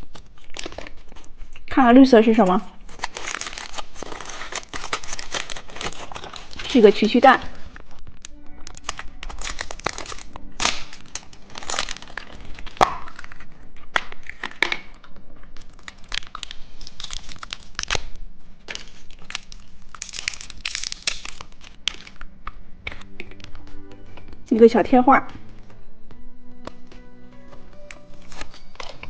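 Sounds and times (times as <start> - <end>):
candy wrapper crinkling: 0.0 - 24.4, 26.6 - 29.0.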